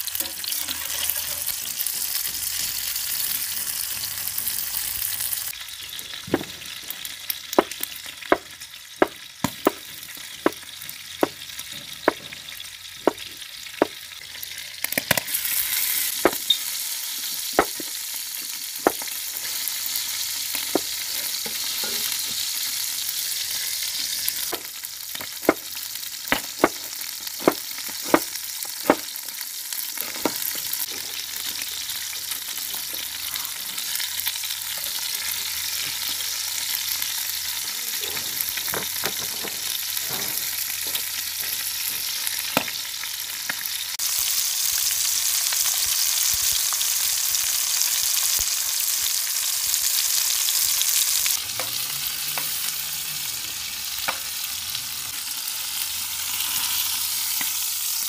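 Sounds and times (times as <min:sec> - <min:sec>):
bacon sizzling in a skillet: 0:00.0 - 0:58.0.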